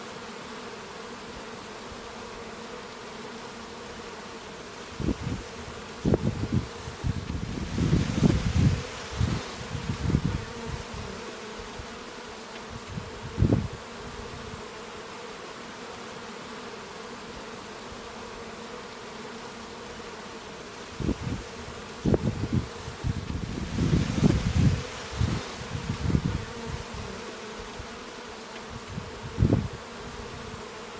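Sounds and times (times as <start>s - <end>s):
bees buzzing: 0.0s - 30.9s.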